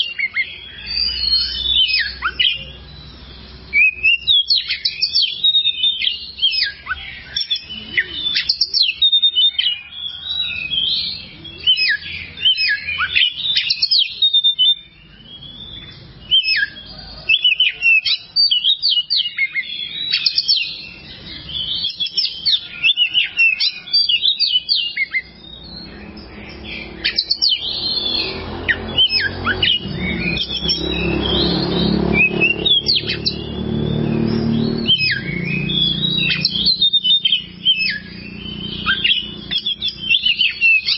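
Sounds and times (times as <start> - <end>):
songbird chirps and whistles: 0.0 - 40.9.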